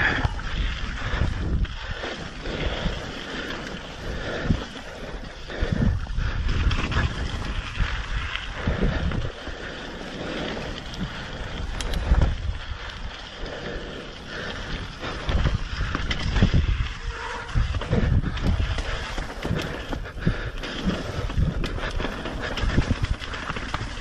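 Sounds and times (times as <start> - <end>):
tyres rushing on wet trail: 0.0 - 24.0
wind buffeting microphone: 0.0 - 24.0.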